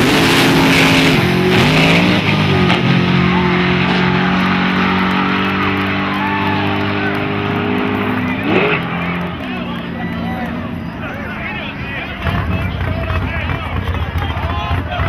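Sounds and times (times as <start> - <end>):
cars accelerating hard: 0.0 - 15.0.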